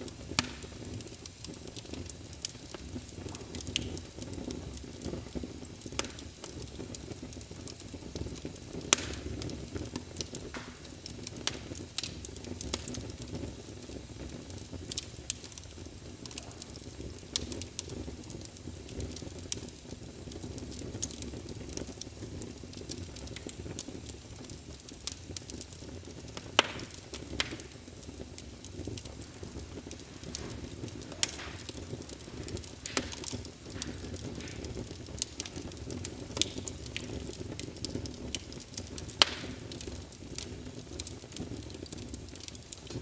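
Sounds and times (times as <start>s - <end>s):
fire crackling and popping: 0.0s - 43.0s
fire flames rushing: 0.0s - 43.0s.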